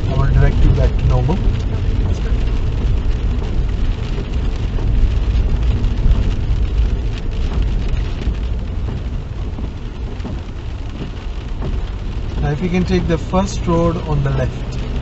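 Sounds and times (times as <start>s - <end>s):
car rumble from inside cabin: 0.0s - 15.0s
rain hitting car roof: 0.0s - 15.0s.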